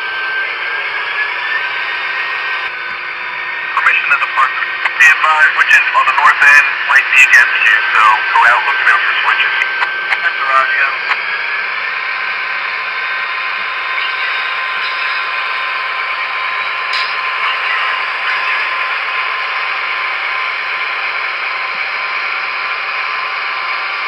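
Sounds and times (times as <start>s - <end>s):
model train engine sound from speaker: 0.0s - 24.0s.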